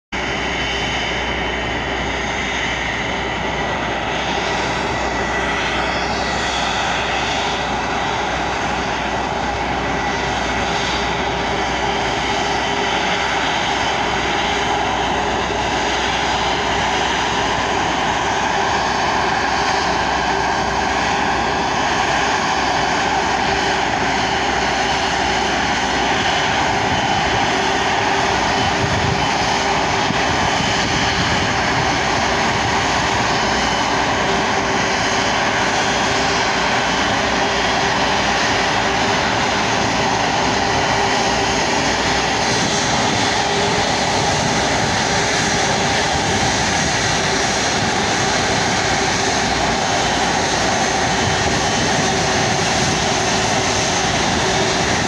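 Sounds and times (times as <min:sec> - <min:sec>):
jet engines whining: 0:00.2 - 0:55.0.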